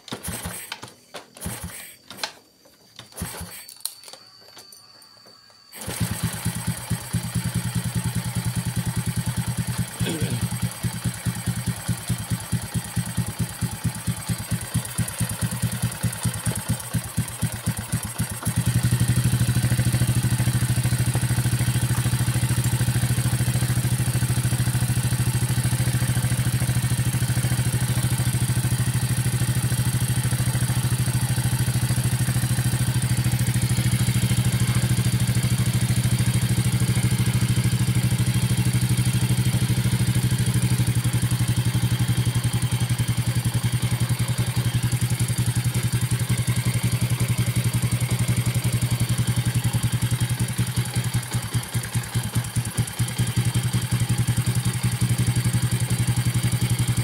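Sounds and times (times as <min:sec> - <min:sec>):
motorcycle engine idling: 0:05.8 - 0:57.0.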